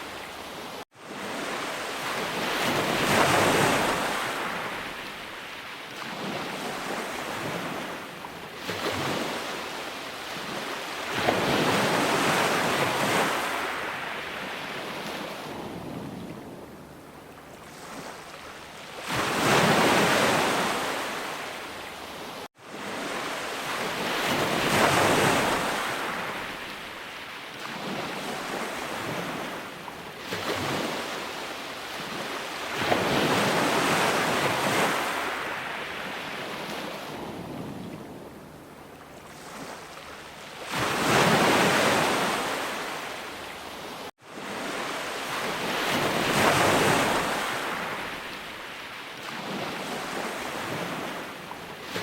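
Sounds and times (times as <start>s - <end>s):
waves breaking and washing in: 0.0s - 52.0s.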